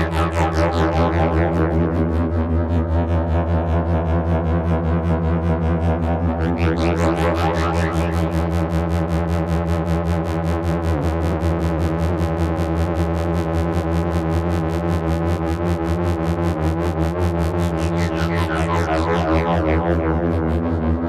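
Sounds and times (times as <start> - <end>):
pulsing synthesizer drone: 0.0 - 21.0.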